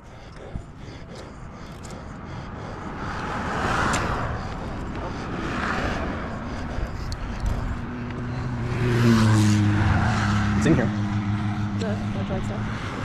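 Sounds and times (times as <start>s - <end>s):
vehicles passing on highway: 0.0s - 13.0s.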